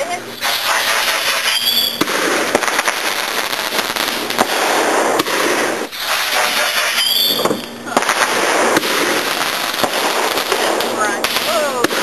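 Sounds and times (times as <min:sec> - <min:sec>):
fireworks crackling and hissing: 0:00.0 - 0:12.0
fireworks sharp pops: 0:00.4 - 0:12.0.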